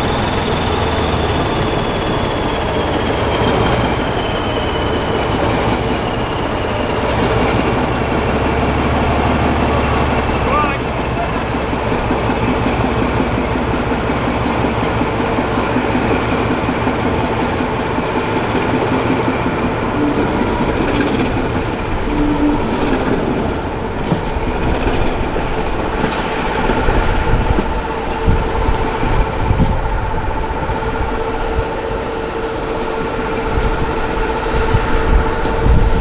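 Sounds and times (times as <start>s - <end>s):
locomotive engine whine and rumble: 0.0s - 36.0s.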